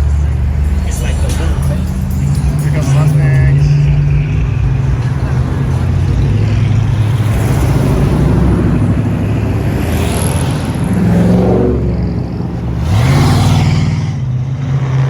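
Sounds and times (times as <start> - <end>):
car engines rumbling: 0.0 - 15.0
engine revving up: 0.0 - 15.0.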